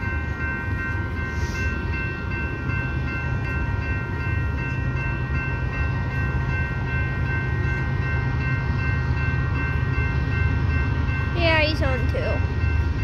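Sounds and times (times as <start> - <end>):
level crossing bell ringing: 0.0 - 13.0
train rumbling: 0.0 - 13.0.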